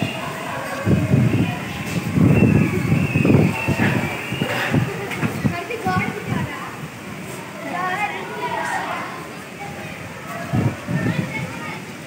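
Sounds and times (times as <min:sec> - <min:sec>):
wind buffeting microphone: 0:00.0 - 0:08.2, 0:09.6 - 0:12.0.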